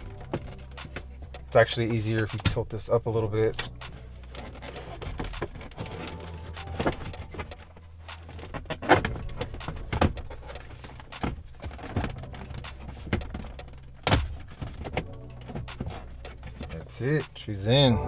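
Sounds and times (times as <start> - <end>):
hard plastic knocks and clicks: 0.0 - 2.8, 3.6 - 17.4.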